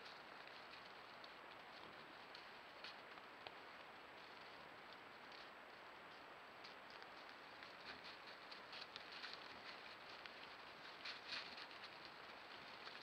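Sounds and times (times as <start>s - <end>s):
animals rustling through grass: 0.0s - 13.0s.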